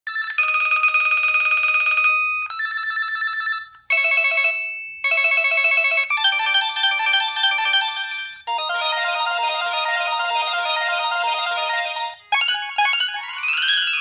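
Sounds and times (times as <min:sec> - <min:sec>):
beeping melodic ringtone: 0:00.1 - 0:14.0
phone warbling ring: 0:00.1 - 0:14.0.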